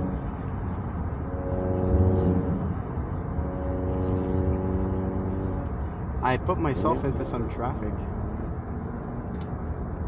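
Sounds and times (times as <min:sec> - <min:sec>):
car engine and exhaust drone: 0:00.0 - 0:10.0
low road rumble: 0:00.0 - 0:10.0.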